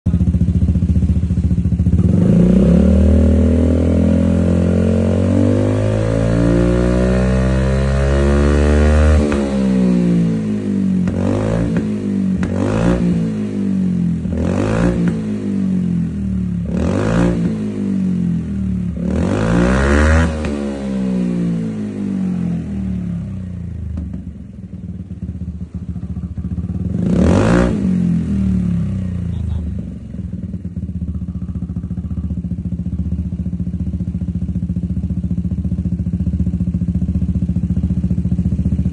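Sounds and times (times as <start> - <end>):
scooter engine revving: 0.1 - 38.9.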